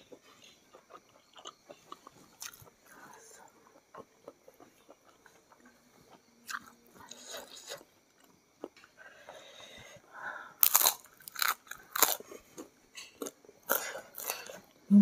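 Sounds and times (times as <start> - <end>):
chewing crispy crackers: 0.0 - 14.8.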